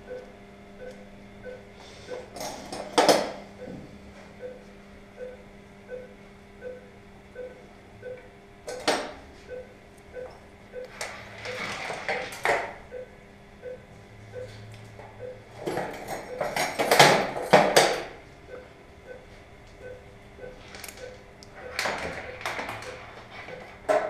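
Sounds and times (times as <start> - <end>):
patient monitor beeping: 0.0 - 2.3, 3.2 - 3.8, 4.4 - 15.6, 16.2 - 16.6, 18.5 - 23.8.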